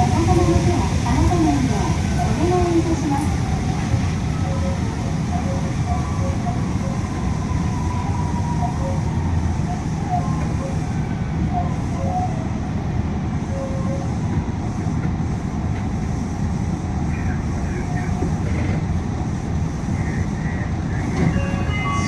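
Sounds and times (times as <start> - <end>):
air-conditioning noise: 0.0 - 22.0
monorail car running noise: 0.0 - 22.0.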